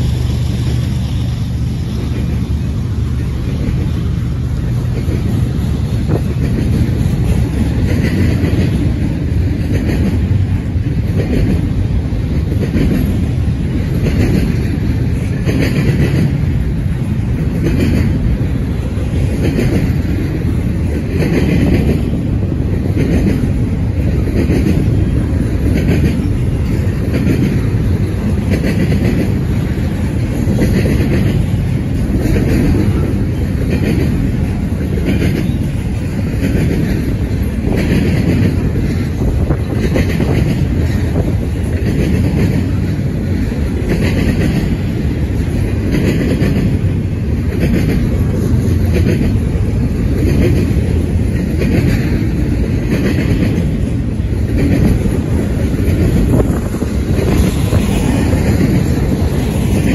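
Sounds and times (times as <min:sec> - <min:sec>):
rail clacking: 0:00.0 - 0:59.9
train wheels rumbling on rails: 0:00.0 - 0:59.9.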